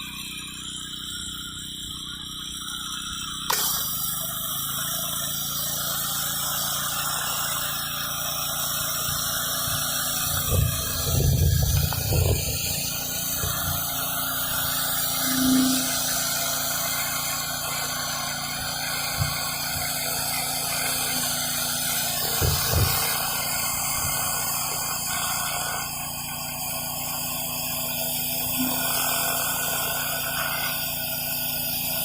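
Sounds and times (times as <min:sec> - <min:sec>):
pressure washer engine running: 0:00.0 - 0:32.0
water spray hissing on concrete: 0:02.7 - 0:32.0.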